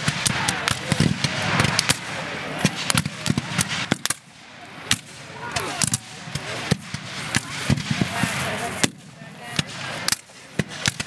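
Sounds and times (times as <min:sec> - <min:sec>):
voices in background: 0:00.1 - 0:10.8.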